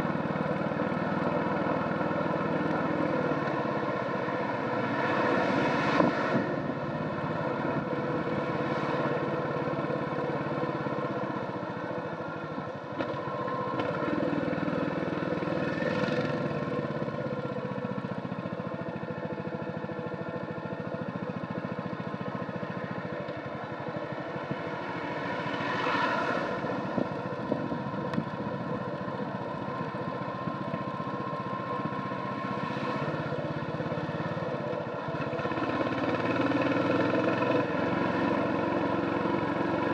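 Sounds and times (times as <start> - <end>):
motorcycle engine running: 0.0 - 5.2, 6.5 - 25.8, 26.4 - 39.9
wind and road noise: 0.0 - 39.9.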